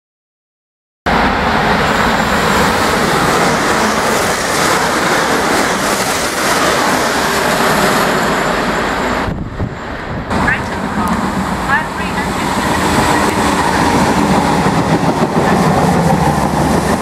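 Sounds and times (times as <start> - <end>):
train passing at speed: 1.1 - 17.0.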